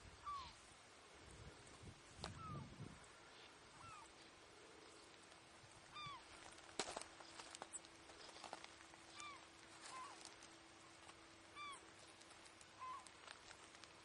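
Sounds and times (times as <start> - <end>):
bird calling: 0.0 - 0.7, 2.2 - 5.2, 5.8 - 13.5
faint low hum: 0.0 - 14.0.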